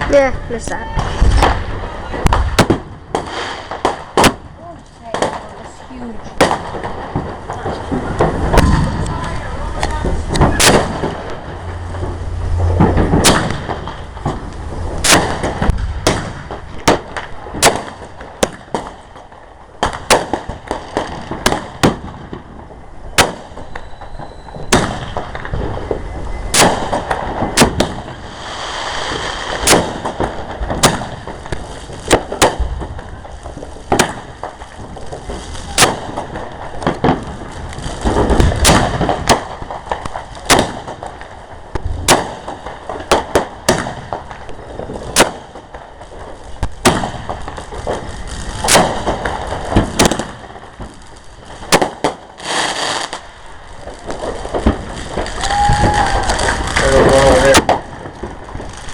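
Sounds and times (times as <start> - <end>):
fireworks bangs: 0.0 - 58.9
fireworks crackling: 0.0 - 58.9.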